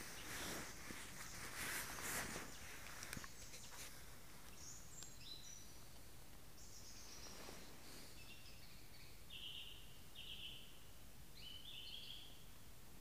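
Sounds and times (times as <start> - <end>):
songbird singing: 0.0 - 1.7, 2.3 - 12.7
faint steady hiss: 0.0 - 13.0.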